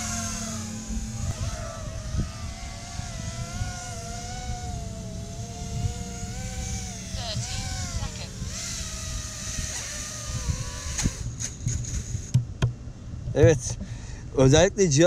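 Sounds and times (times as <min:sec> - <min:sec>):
low rumble: 0:00.0 - 0:12.2
drone motors whining: 0:00.0 - 0:12.4.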